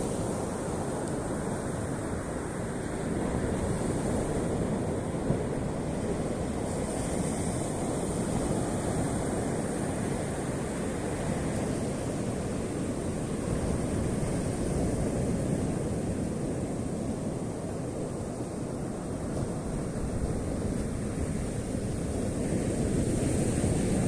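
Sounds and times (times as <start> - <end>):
surf washing onto shore: 0.0 - 24.0
wind rumbling on microphone: 0.0 - 24.0.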